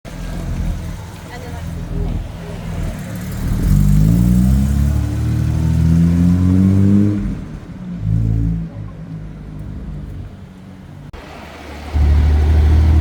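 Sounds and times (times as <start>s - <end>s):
car engine accelerating hard: 0.1s - 10.4s, 11.1s - 13.0s.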